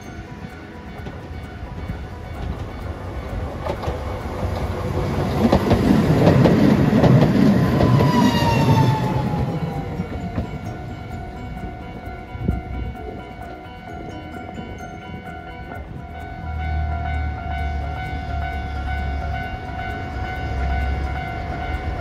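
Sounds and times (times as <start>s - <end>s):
tram passing: 0.0s - 22.0s
wheels clicking over rail joints: 0.0s - 22.0s.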